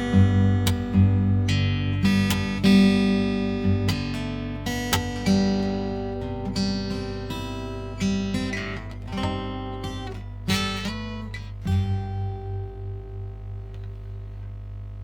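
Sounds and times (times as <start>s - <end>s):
fingerstyle acoustic guitar: 0.0s - 14.6s.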